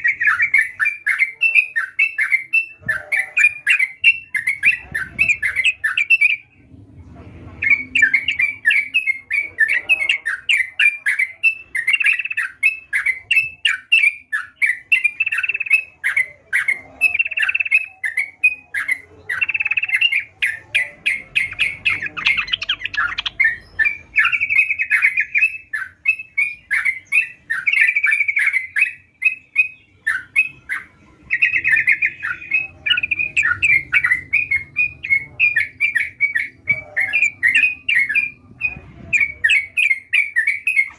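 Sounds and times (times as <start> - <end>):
bird chattering song: 0.0 - 6.7, 7.5 - 40.9.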